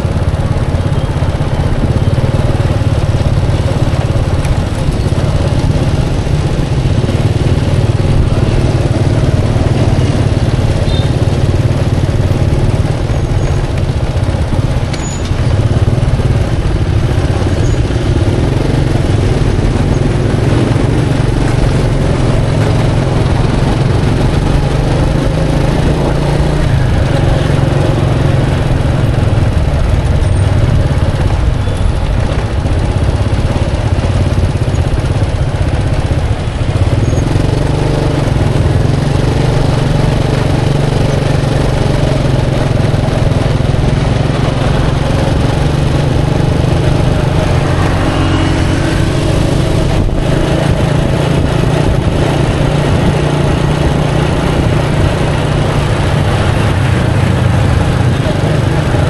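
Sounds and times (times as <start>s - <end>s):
motorbike engine: 0.0s - 59.0s
road traffic rumble: 0.0s - 59.0s.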